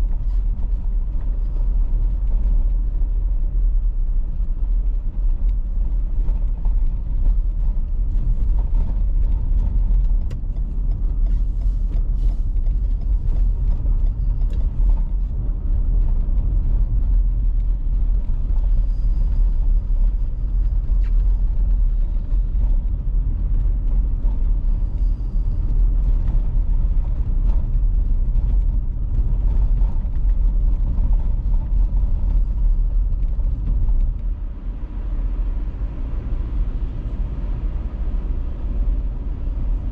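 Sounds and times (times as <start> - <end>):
small clicks and crackles: 0.0 - 34.4
tyre and road rumble: 0.0 - 39.9.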